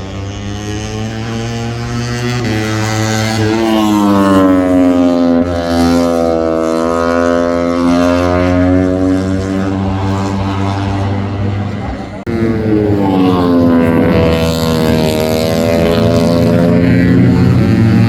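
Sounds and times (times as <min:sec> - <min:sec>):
racing motorcycle engines revving: 0:00.0 - 0:18.0.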